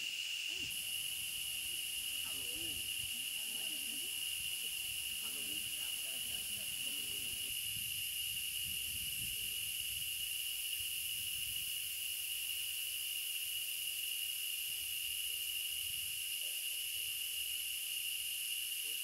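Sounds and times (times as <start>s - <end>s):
high insect hiss: 0.0s - 19.0s
insects droning: 0.0s - 19.0s.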